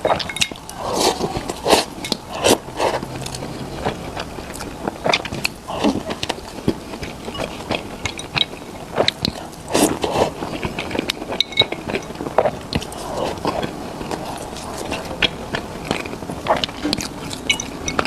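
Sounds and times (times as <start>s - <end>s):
person biting and chewing food: 0.0s - 18.0s.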